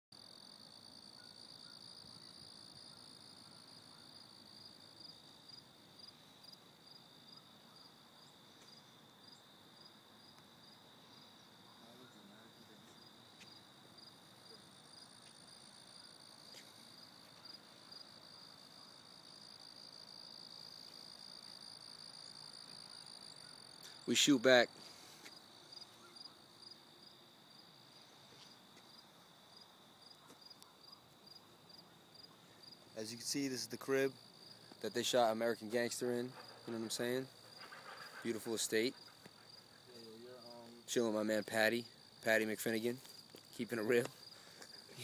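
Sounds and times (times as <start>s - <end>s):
crickets trilling: 0.2s - 45.0s.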